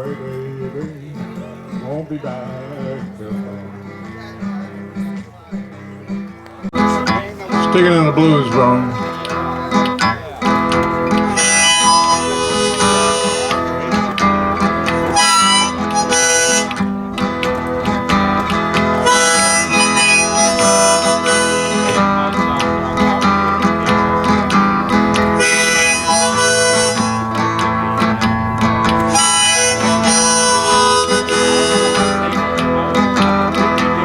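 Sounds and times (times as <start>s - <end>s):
acoustic guitar: 0.0s - 34.0s
blues harmonica: 6.8s - 34.0s.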